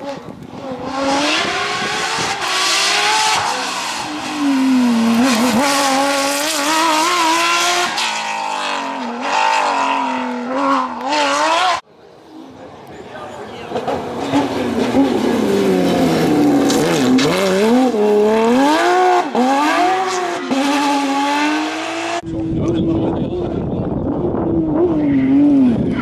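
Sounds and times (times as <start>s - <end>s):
rally car engine at high revs: 0.0s - 11.8s, 14.0s - 26.0s.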